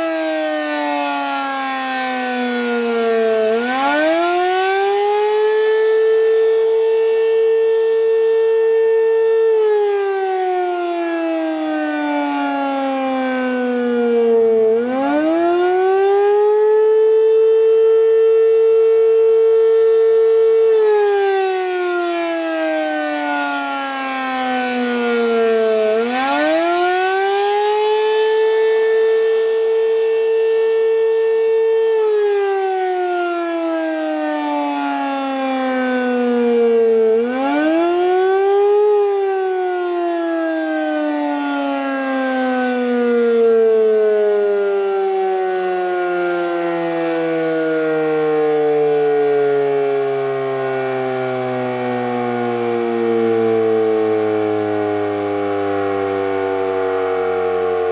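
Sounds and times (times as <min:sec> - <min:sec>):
warning siren wailing: 0:00.0 - 0:57.9.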